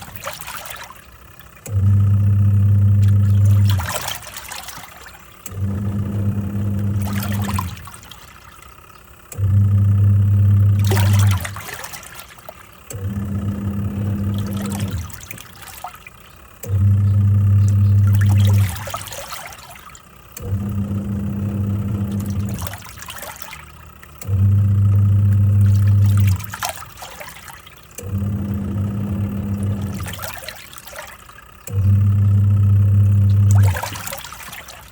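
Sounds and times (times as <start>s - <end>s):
washing machine motor humming: 0.0s - 34.9s
water sloshing in tub: 0.0s - 34.9s.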